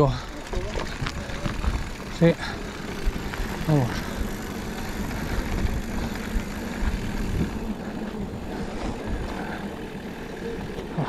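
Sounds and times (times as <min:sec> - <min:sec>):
car engine running: 0:00.3 - 0:11.0.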